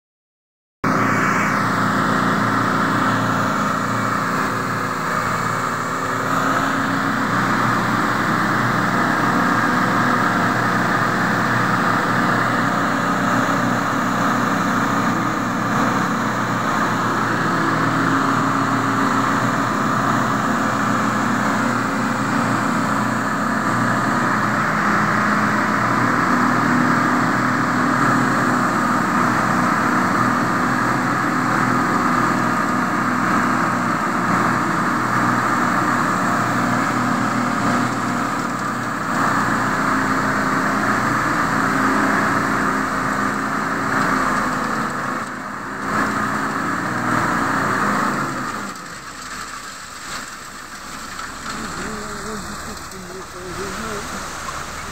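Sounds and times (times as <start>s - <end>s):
vehicle engine running steadily: 0.8s - 54.9s.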